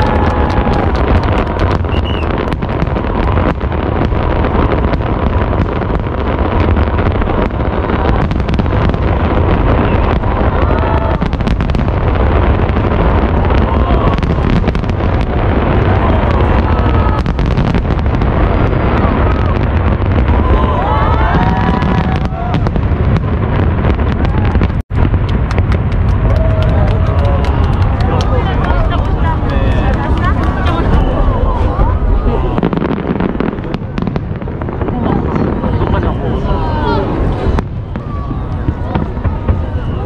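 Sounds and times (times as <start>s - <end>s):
crowd voices: 0.0s - 40.0s
fireworks bursting: 0.0s - 40.0s.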